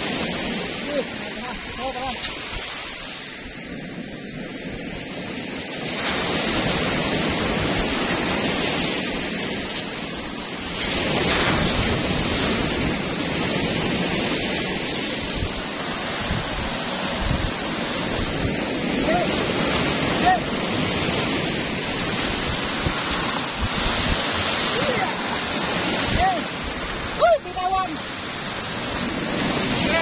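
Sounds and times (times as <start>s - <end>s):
waves breaking on gravel beach: 0.0s - 30.0s
wind rumbling on microphone: 0.0s - 30.0s.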